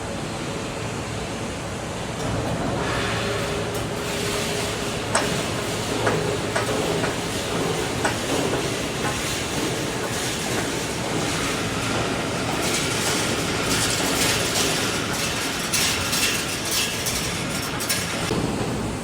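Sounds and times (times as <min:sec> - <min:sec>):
welding machine mechanical din: 0:02.8 - 0:18.5.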